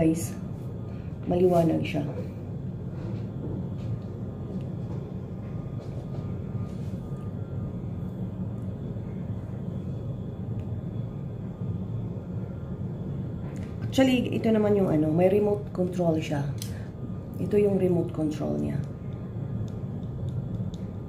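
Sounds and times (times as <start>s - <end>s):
low rumbling hum: 0.0s - 21.0s.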